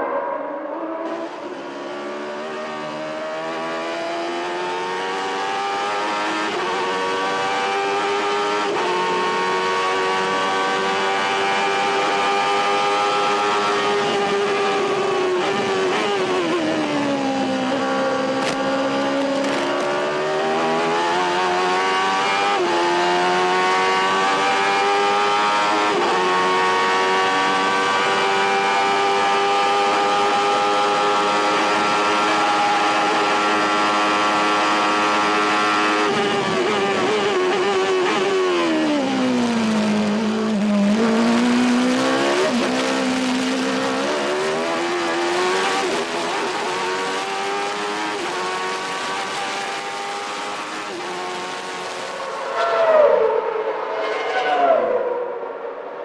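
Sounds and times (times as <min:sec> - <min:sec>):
racing car engine at high revs: 0:00.0 - 0:56.0.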